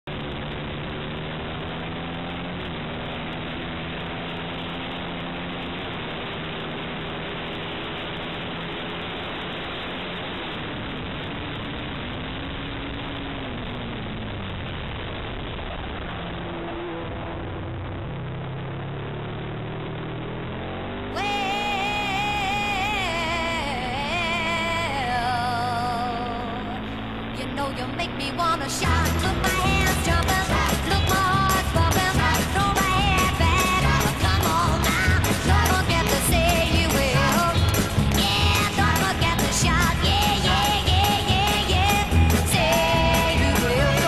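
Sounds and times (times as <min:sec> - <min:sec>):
motorcycle engine at speed: 0:00.0 - 0:44.0.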